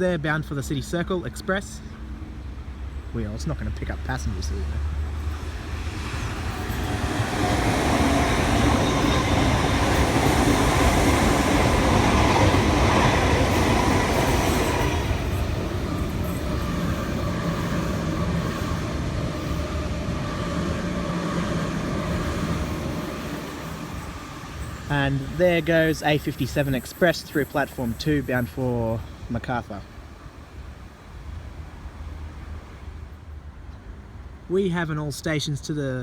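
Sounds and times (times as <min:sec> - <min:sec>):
electric train passing at speed: 0:00.0 - 0:35.0.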